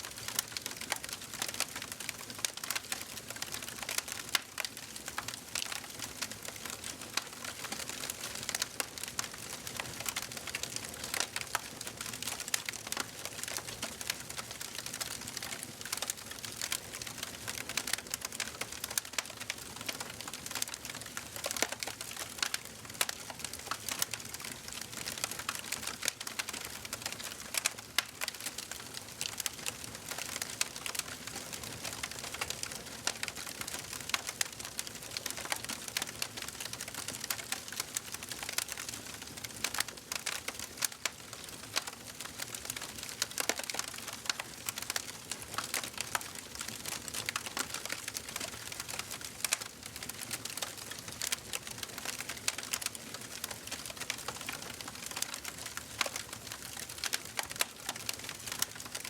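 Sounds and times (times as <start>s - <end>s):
fire popping and snapping: 0.1s - 59.0s.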